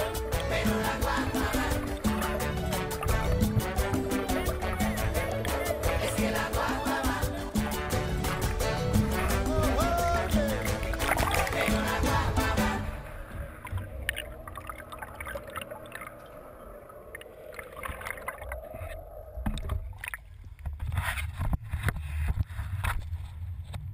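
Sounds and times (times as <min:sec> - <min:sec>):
water splashing: 0:00.0 - 0:21.4.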